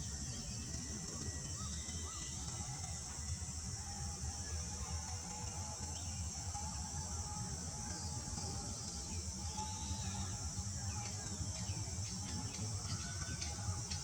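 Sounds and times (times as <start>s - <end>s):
shrill insect drone: 0.0s - 14.0s.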